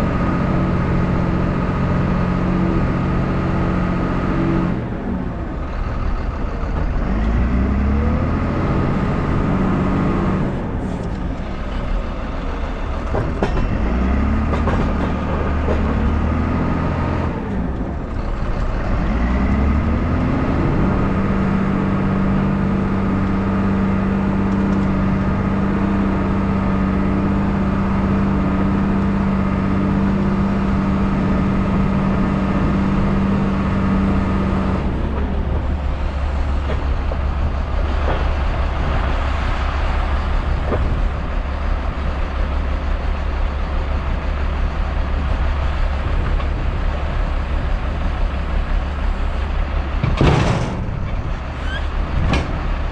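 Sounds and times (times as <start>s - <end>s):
diesel truck engine idling: 0.0s - 52.9s.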